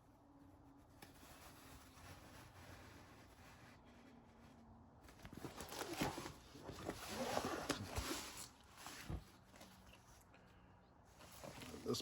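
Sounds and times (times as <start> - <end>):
canvas rustling and crinkling: 0.0 - 10.3.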